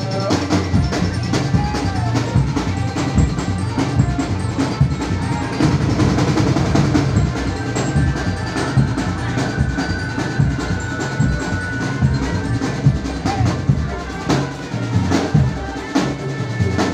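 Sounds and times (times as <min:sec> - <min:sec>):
driving drums and percussion: 0:00.0 - 0:16.9.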